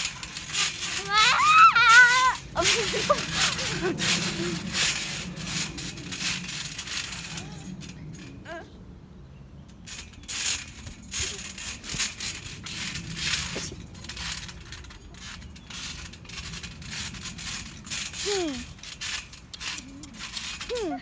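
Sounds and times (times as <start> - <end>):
rustling and scraping of handling: 0.0 - 8.7, 9.6 - 21.0.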